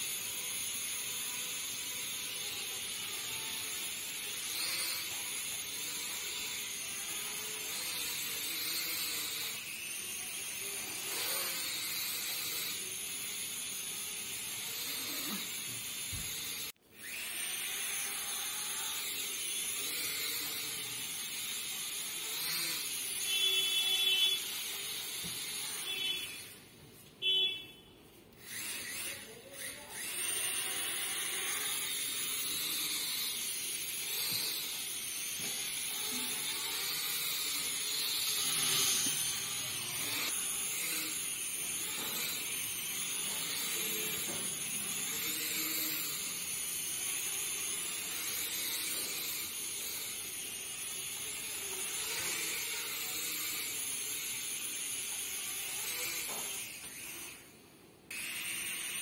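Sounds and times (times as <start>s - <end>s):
toy drone motors whirring: 0.0s - 26.7s, 28.3s - 59.0s.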